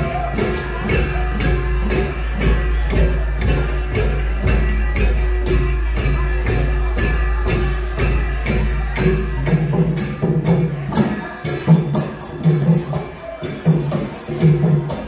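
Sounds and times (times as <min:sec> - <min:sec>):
cymbals: 0:00.0 - 0:15.0
hand-beaten long drums: 0:00.0 - 0:15.0.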